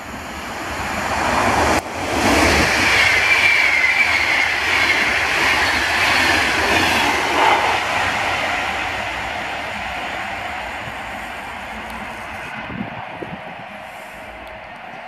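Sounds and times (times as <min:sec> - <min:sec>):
train wheels rushing on rails: 0:00.0 - 0:15.0.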